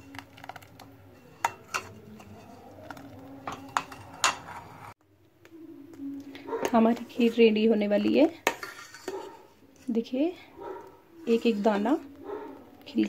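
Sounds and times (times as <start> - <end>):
spoon stirring thick liquid: 0.0 - 5.0, 5.9 - 13.0.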